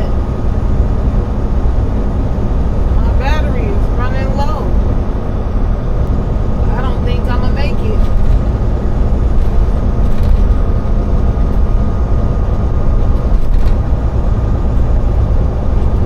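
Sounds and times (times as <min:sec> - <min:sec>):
faint steady whine: 0:00.0 - 0:16.0
truck engine and road rumble: 0:00.0 - 0:16.0.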